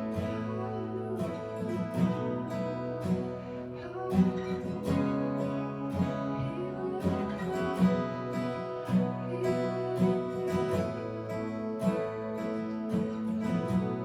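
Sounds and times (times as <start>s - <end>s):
strummed acoustic guitar worship music: 0.0s - 14.0s.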